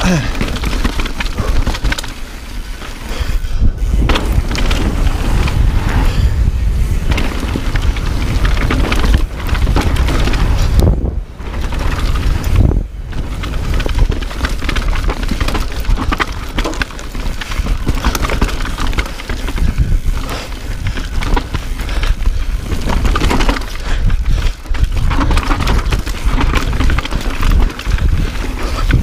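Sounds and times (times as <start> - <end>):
tyres clattering on dirt and rock: 0.0 - 3.3, 4.0 - 5.5, 7.0 - 29.0
bike rattling: 0.0 - 29.0
wind rumbling on microphone: 0.0 - 29.0.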